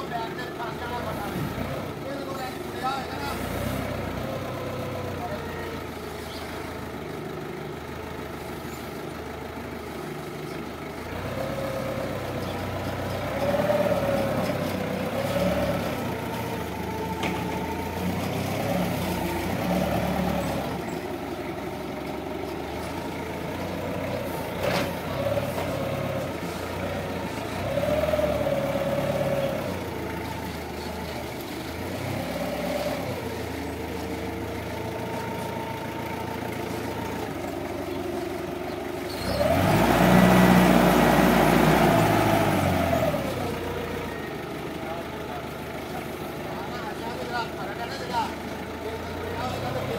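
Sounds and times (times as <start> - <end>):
forklift engine revving: 0.0 - 49.9.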